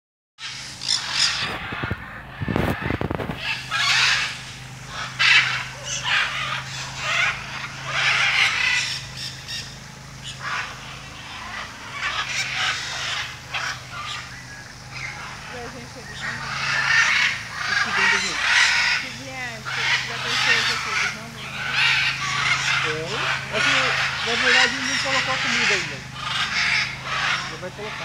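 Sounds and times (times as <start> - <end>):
birds squawking harshly: 0.4 - 28.0
steady low hum: 0.4 - 28.0.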